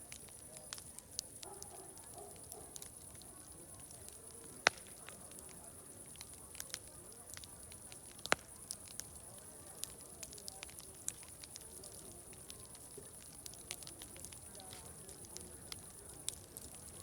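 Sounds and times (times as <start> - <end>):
distant crowd chatter: 0.0 - 17.0
wood fire crackling: 0.0 - 17.0.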